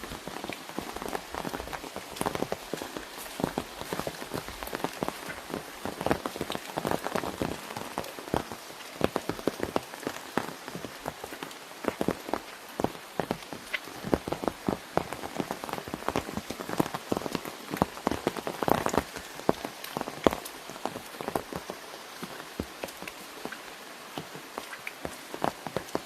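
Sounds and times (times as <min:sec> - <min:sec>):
rain hissing: 0:00.0 - 0:26.0
raindrops tapping on umbrella: 0:00.0 - 0:26.0.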